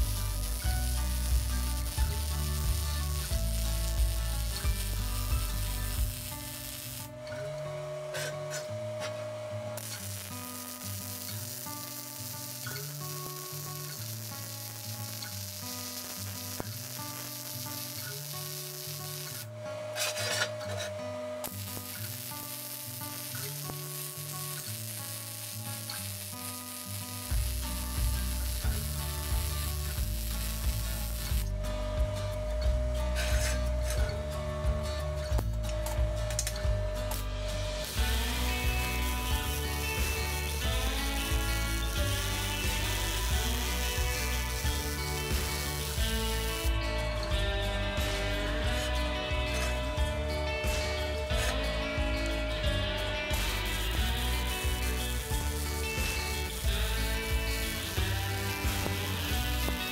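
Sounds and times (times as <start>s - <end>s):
welding arc crackling hiss: 0.0s - 7.2s, 9.8s - 31.6s, 32.7s - 34.2s, 36.4s - 59.9s
background music: 0.0s - 59.9s.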